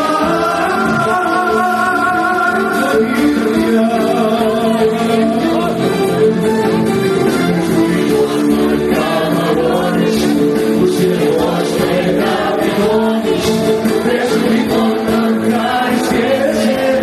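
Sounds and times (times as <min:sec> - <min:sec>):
man singing into a microphone: 0:00.0 - 0:06.2, 0:08.0 - 0:17.0.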